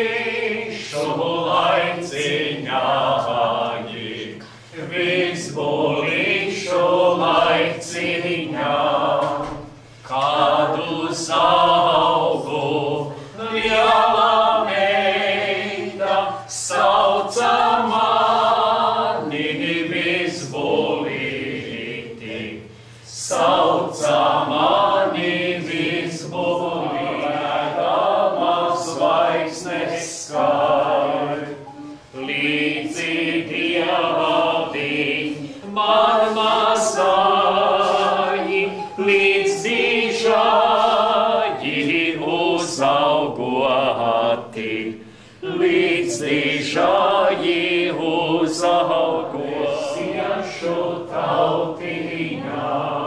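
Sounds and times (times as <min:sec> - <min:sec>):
group singing folk song: 0:00.0 - 0:53.0.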